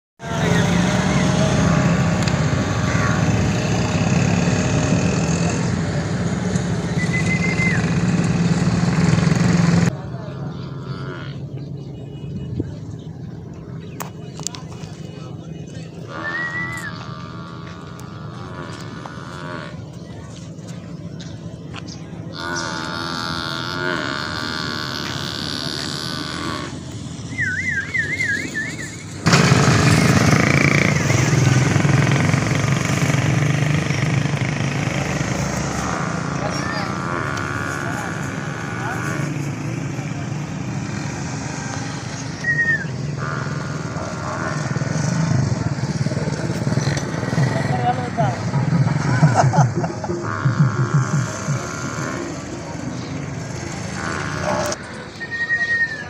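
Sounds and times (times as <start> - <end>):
low mechanical engine drone: 0.2 - 55.0.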